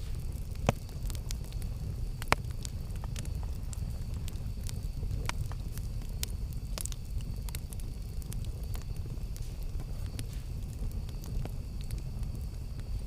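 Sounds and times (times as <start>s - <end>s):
campfire low rumble: 0.0s - 13.0s
crackles and pops of burning wood: 0.0s - 13.0s.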